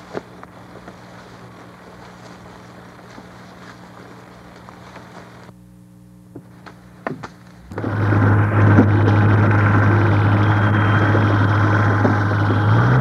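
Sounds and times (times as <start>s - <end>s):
tractor diesel engine running: 0.0s - 5.5s, 6.4s - 13.0s
low steady hum: 0.0s - 13.0s.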